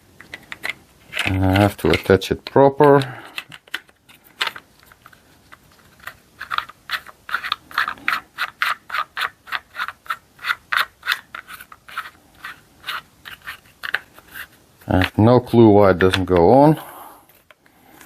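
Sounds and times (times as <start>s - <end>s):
plastic clicks and scrapes: 0.2s - 15.2s.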